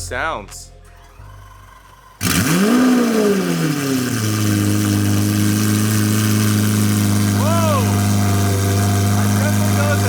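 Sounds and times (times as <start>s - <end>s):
car engine starting and idling: 0.8s - 10.0s.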